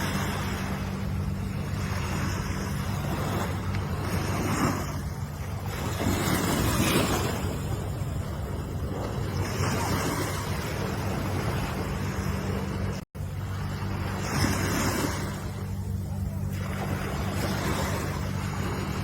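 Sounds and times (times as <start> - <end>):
low rumble: 0.0 - 19.0
ocean waves breaking: 0.0 - 19.0.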